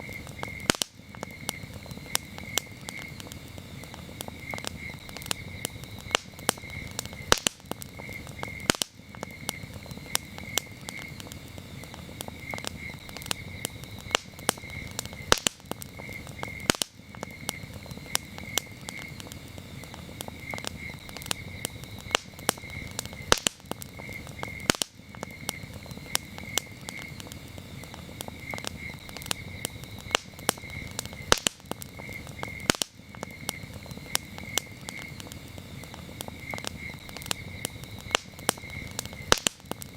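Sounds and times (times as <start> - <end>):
campfire crackling and popping: 0.0 - 39.9
crickets chirping: 0.0 - 39.9
low rumble of flames: 0.0 - 39.9.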